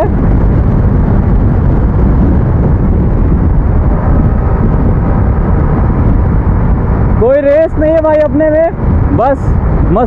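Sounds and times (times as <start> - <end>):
motorcycle engine rumble: 0.0 - 10.0
wind buffeting microphone: 0.0 - 10.0.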